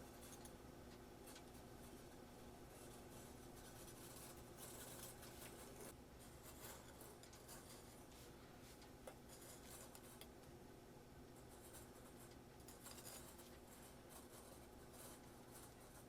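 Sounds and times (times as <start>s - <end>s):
faint scratching and rubbing: 0.0s - 10.4s, 11.2s - 16.0s
low steady hum: 0.0s - 16.0s.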